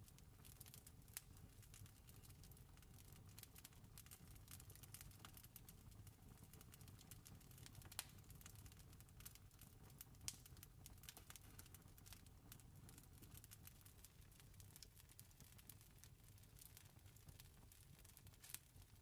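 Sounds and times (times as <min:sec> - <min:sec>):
campfire crackling: 0:00.1 - 0:19.0.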